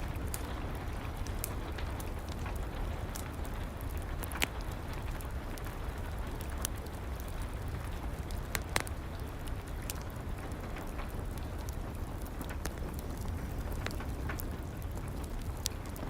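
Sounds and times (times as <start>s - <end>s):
steady rain: 0.0s - 16.0s
wood fire crackling and popping: 0.0s - 16.0s.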